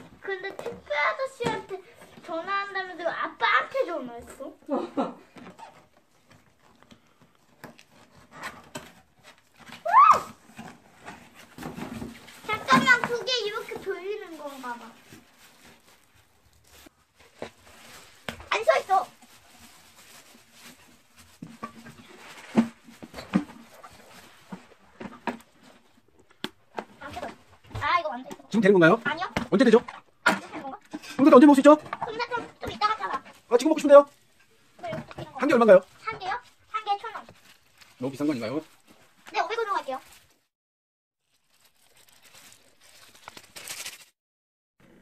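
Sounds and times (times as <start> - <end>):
plastic wrapping rustling: 0.0 - 40.5, 41.2 - 44.2.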